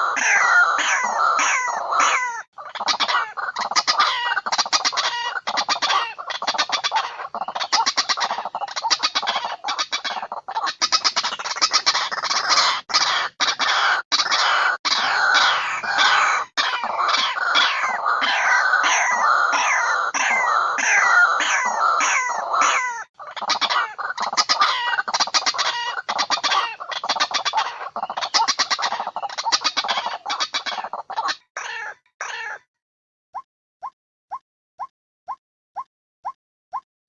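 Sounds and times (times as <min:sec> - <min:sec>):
harsh bird calls and croaks: 0:00.0 - 0:32.7.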